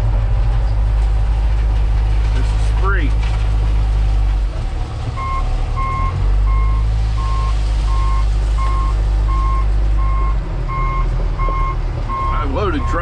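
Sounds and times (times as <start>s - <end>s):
diesel loader running: 0.0s - 13.0s.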